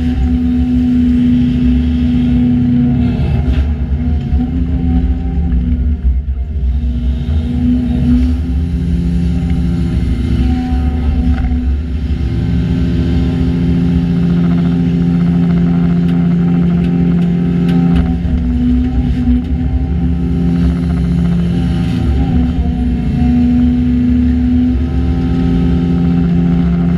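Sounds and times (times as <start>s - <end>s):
excavator diesel engine: 0.0s - 26.9s.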